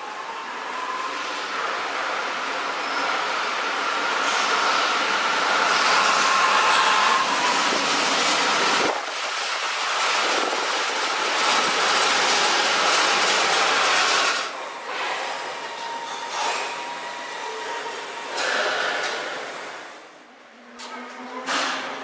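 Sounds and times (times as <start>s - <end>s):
subway train running: 0.0s - 22.0s.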